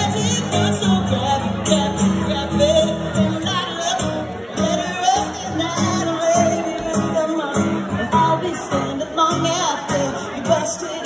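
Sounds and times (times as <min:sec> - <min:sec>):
person singing: 0:00.0 - 0:11.0.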